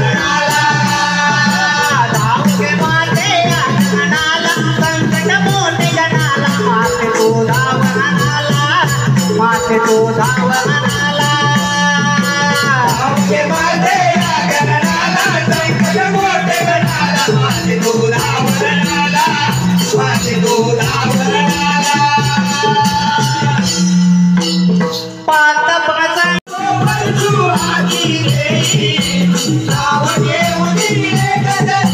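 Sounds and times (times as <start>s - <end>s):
folk devotional song: 0.0s - 24.3s, 25.3s - 31.9s
rhythmic rattling percussion: 0.0s - 31.9s.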